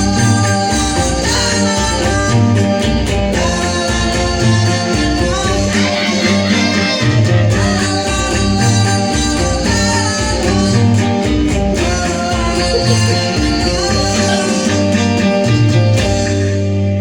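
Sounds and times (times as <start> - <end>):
person singing: 0.0 - 16.4
guitar: 0.0 - 17.0
repeating bass line: 0.0 - 17.0.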